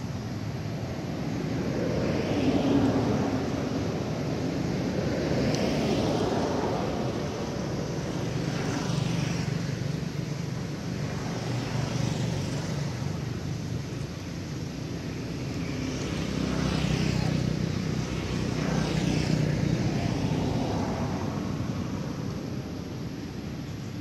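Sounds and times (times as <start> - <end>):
engine drone with low hum: 0.0 - 24.0.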